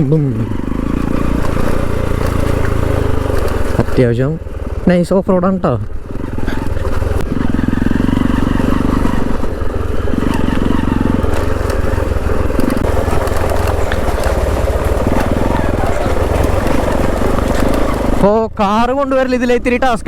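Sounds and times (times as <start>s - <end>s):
rattling: 0.0s - 4.9s, 5.8s - 18.4s
motorcycle engine running: 0.0s - 20.0s.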